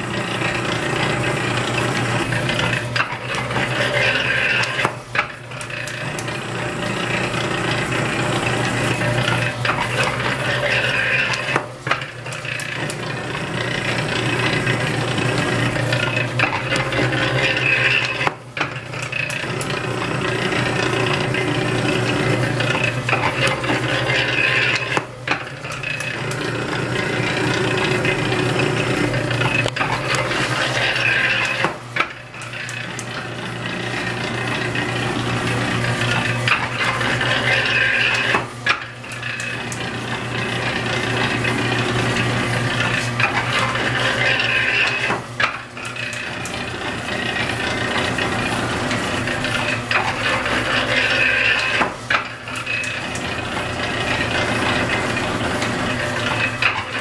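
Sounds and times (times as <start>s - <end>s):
electric motor hum: 0.0s - 57.0s
metal planer clattering: 0.1s - 57.0s.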